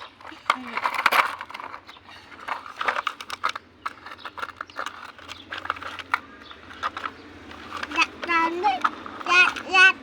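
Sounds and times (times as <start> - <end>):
plastic toys clicking and clattering: 0.0 - 10.0.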